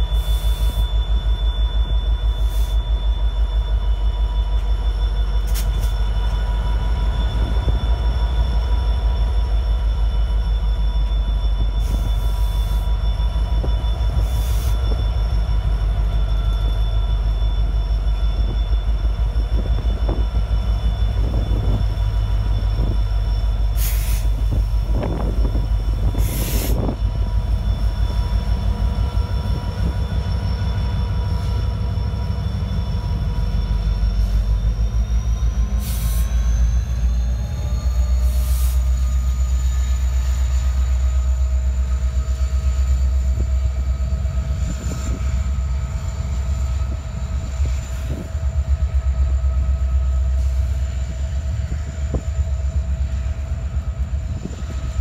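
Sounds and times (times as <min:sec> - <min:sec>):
diesel locomotives rumbling past: 0:00.0 - 0:55.0
high whine: 0:00.0 - 0:55.0.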